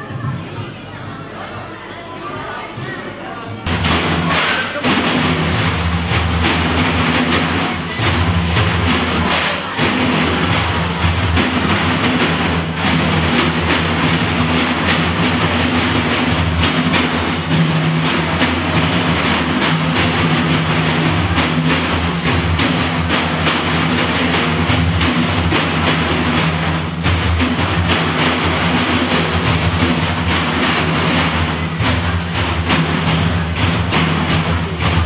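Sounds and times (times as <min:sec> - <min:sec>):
frame drums played by hand: 0:03.6 - 0:35.0.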